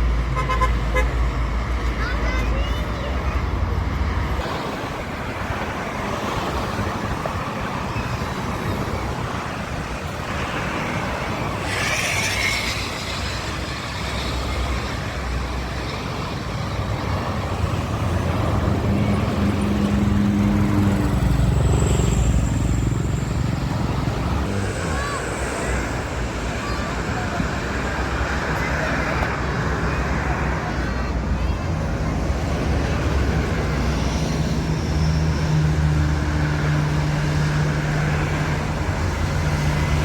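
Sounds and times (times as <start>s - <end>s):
heavy vehicle engine rumble: 0.0s - 40.0s
road traffic passing: 0.0s - 40.0s.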